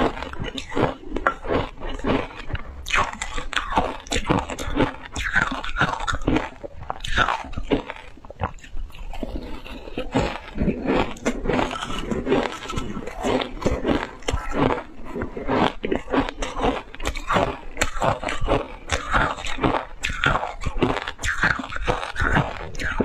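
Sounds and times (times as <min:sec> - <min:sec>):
crunching and chewing ice: 0:00.0 - 0:23.0.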